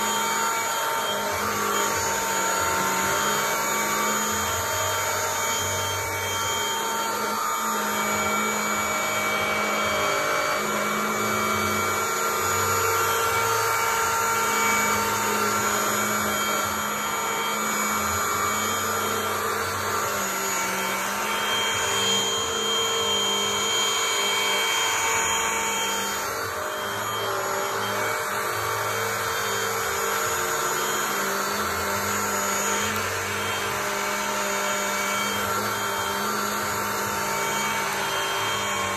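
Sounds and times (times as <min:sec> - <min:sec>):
stick vacuum cleaner whining: 0:00.0 - 0:38.9.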